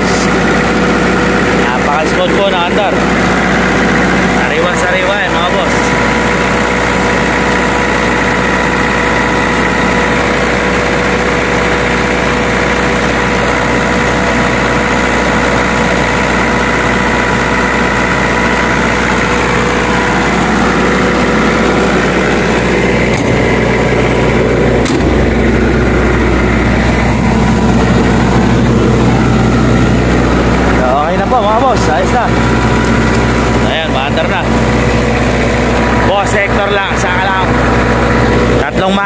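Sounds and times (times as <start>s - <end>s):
diesel generator running: 0.0s - 39.0s
whine: 0.0s - 39.0s.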